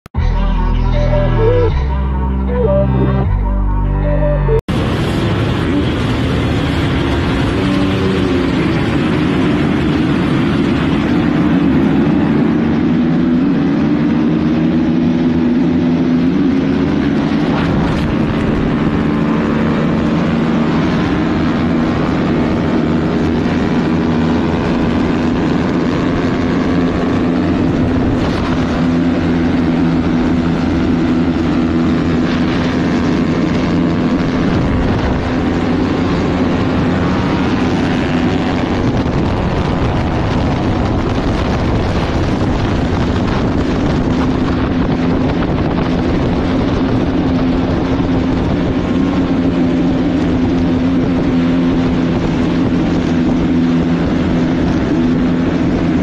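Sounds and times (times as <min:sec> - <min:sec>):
motocross bike engine: 0:03.4 - 0:56.0.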